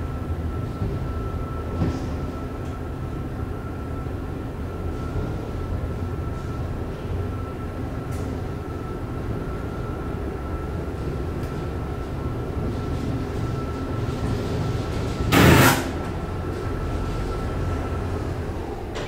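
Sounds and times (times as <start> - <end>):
elevator rumbling in shaft: 0.0 - 19.0
high elevator whine: 0.0 - 19.0.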